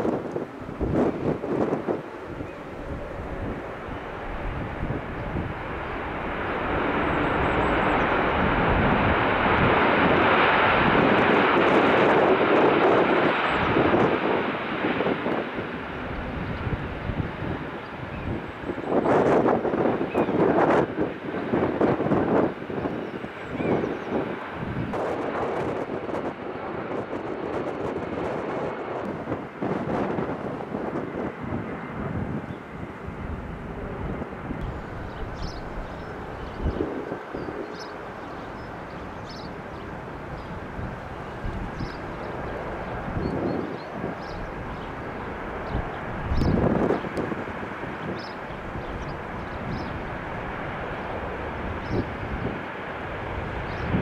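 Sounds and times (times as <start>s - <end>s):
jet airliner engines rushing: 0.0s - 54.0s.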